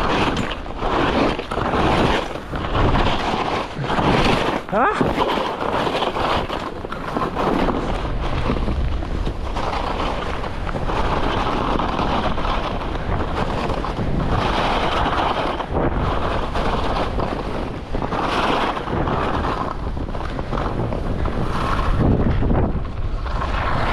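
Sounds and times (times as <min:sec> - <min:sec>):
skis scraping on snow: 0:00.0 - 0:23.9
wind buffeting microphone: 0:00.0 - 0:23.9.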